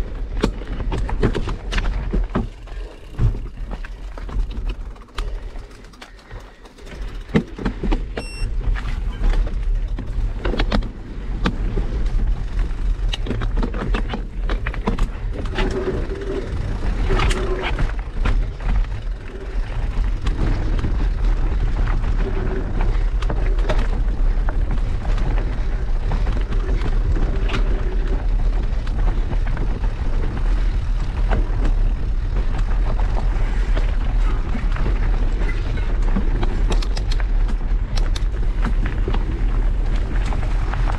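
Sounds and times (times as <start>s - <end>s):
bike rattling over stones: 0.0s - 40.9s
wind rumbling on microphone: 0.0s - 40.9s.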